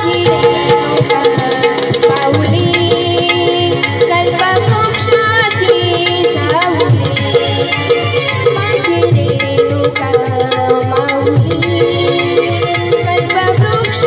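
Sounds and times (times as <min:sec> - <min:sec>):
hand drum beating: 0:00.0 - 0:14.0
woman singing through a microphone: 0:00.0 - 0:14.0.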